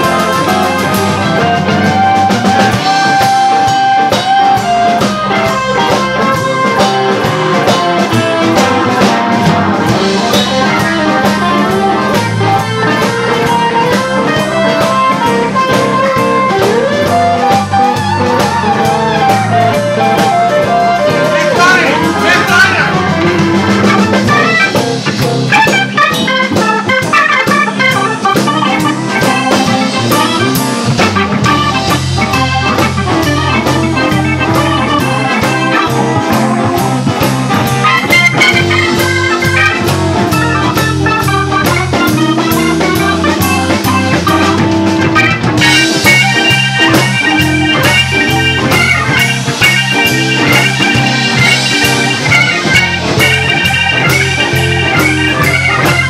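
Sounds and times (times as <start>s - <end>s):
bass: 0.0s - 56.0s
live blues band playing: 0.0s - 56.0s
organ: 0.0s - 56.0s
steady drum beat: 0.0s - 56.0s.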